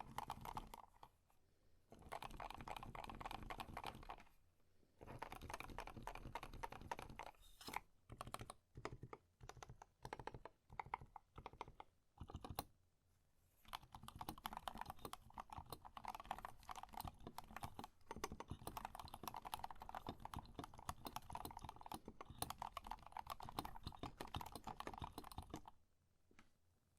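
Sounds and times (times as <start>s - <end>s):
mechanical keyboard typing: 0.0s - 1.1s, 1.9s - 4.3s, 5.0s - 7.4s, 8.1s - 12.7s, 13.7s - 25.8s.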